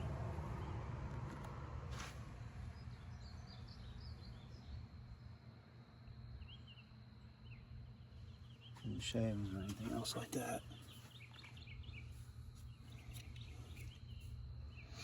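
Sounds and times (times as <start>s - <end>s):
faint birds chirping: 0.0s - 15.0s
low steady outdoor rumble: 0.0s - 15.0s.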